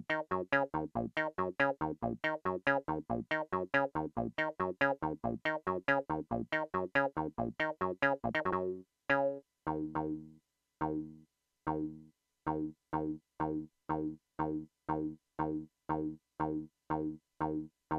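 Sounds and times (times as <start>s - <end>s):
synth plucky sequenced notes: 0.0s - 17.7s.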